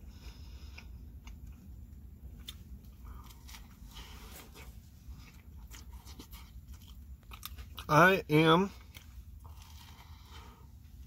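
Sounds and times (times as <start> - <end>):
low steady rumble: 0.0 - 11.0
person chewing food: 0.0 - 11.0.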